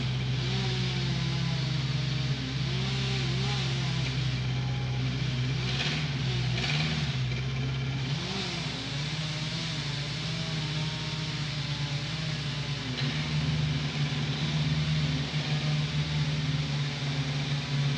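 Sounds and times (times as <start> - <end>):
engine running at high throttle: 0.0 - 17.9.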